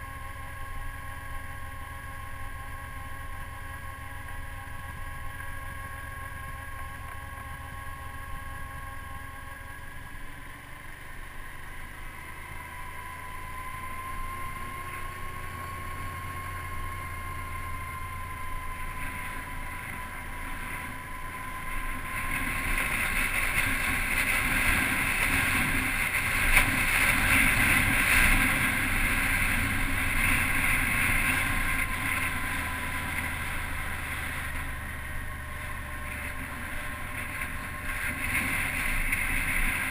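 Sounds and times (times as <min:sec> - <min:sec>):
motorcycle engine running: 0:00.0 - 0:39.9
thin whine: 0:00.0 - 0:39.9.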